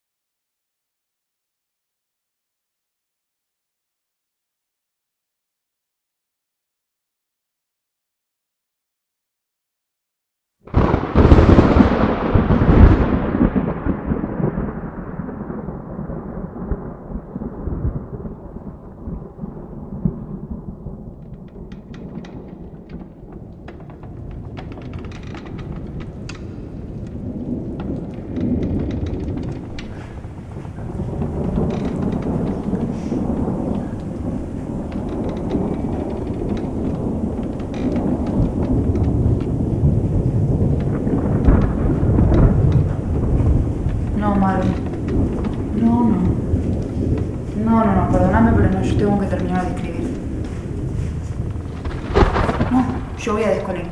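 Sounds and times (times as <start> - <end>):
raindrops ticking: 10.7 - 53.9
thunderclap and rumble: 10.7 - 53.9.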